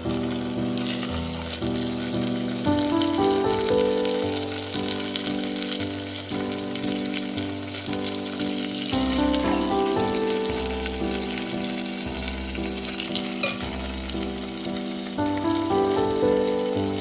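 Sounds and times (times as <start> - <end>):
background music: 0.0 - 17.0
food frying sizzle: 0.0 - 17.0.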